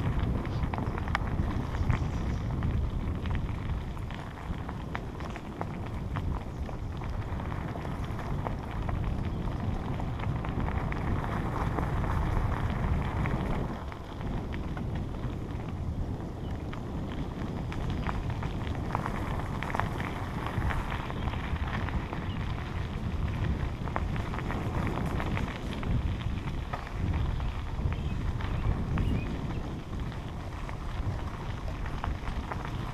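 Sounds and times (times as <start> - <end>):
bicycle tyres rolling on gravel: 0.0 - 32.9
wind rumble on microphone: 0.0 - 32.9.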